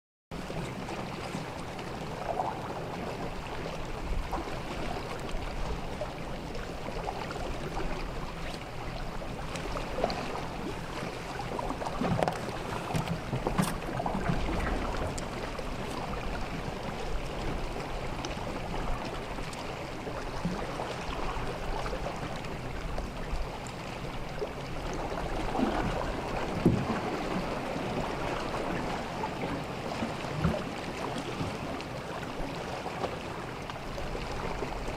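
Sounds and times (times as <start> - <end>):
sea water lapping and splashing: 0.4 - 34.9.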